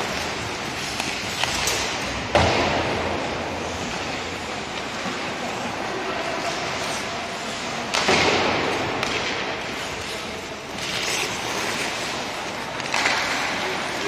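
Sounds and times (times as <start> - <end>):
skate blades scraping on ice: 0.0 - 2.3, 3.2 - 14.0.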